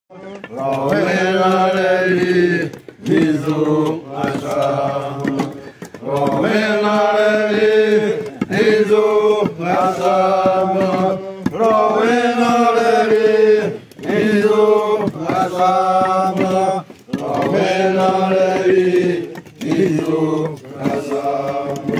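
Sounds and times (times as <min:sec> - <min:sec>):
men chanting in long notes: 0:00.1 - 0:21.9.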